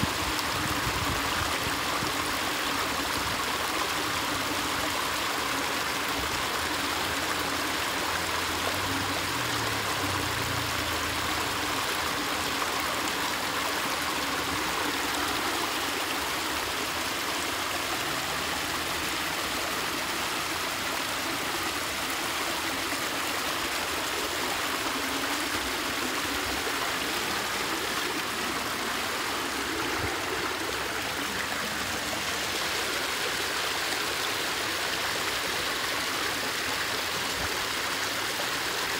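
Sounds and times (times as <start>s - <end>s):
water pouring from culvert pipes: 0.0s - 38.9s.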